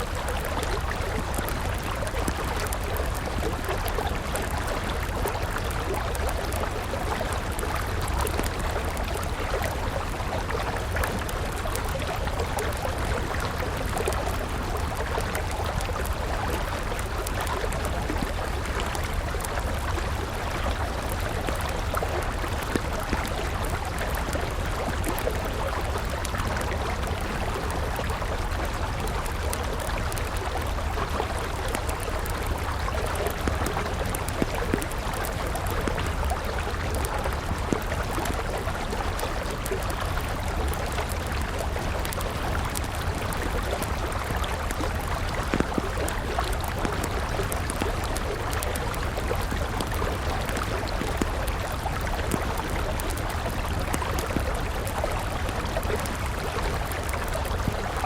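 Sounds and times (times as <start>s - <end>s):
campfire crackling: 0.0s - 58.0s
river flowing: 0.0s - 58.0s.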